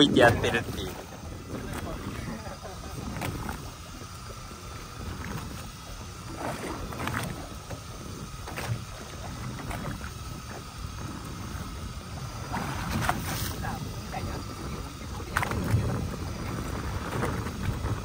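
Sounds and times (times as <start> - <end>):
faint steady whine: 0.0 - 18.0
rumble of wind and water: 0.0 - 18.0.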